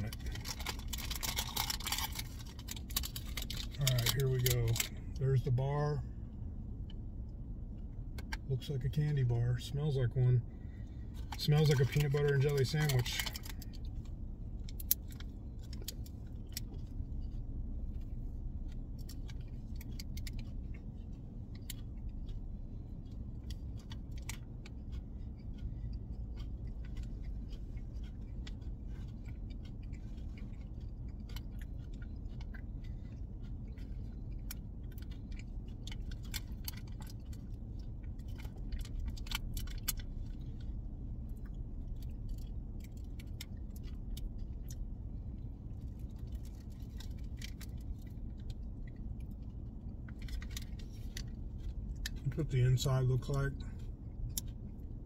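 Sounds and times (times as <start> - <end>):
chewing: 0.0 - 5.2, 10.6 - 52.4
steady low hum: 0.0 - 55.0.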